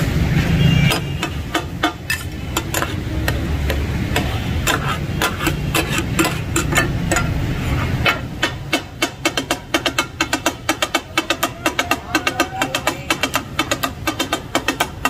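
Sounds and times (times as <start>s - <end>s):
metal blades clacking on griddle: 0.9s - 15.0s.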